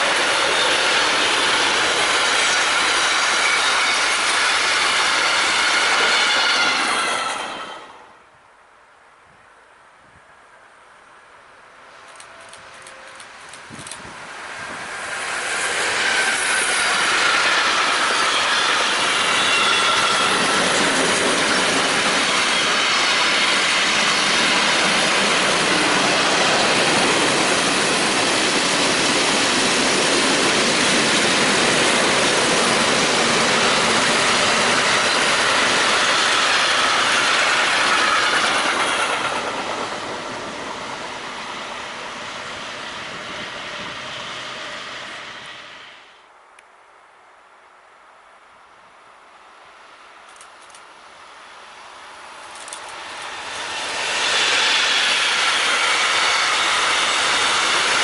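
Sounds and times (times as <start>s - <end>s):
freight train passing: 0.0s - 8.4s, 10.6s - 46.4s, 49.1s - 58.0s.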